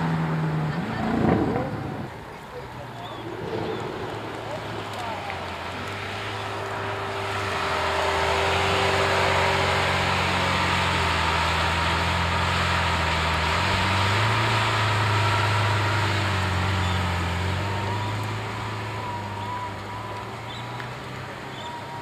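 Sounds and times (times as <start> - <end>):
car engine running at low revs: 0.0 - 22.0.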